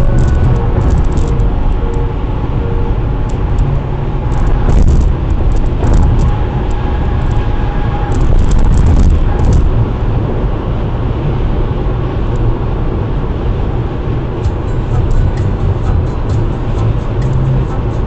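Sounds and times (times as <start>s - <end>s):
car road and tyre rumble: 0.0s - 18.0s.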